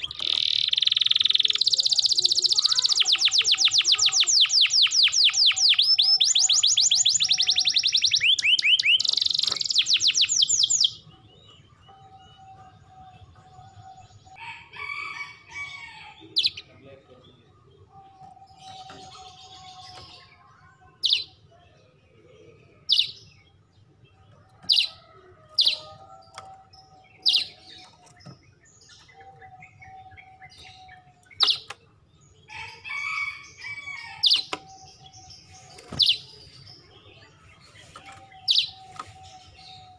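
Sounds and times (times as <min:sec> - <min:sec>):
canary chirps: 0:00.0 - 0:16.7, 0:22.8 - 0:39.9
canary singing in trills: 0:00.0 - 0:39.9.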